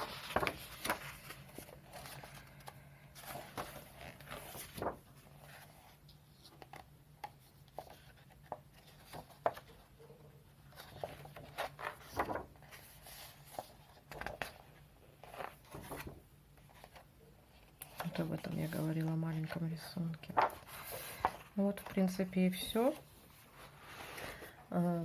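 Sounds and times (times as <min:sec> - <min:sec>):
book pages turning: 0:00.0 - 0:09.9, 0:10.6 - 0:24.5.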